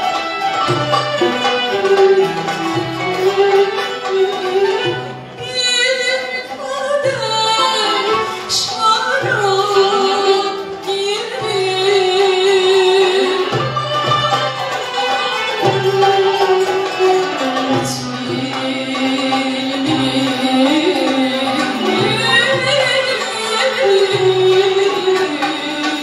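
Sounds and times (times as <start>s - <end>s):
classical ensemble playing: 0.0s - 6.7s, 7.4s - 26.0s.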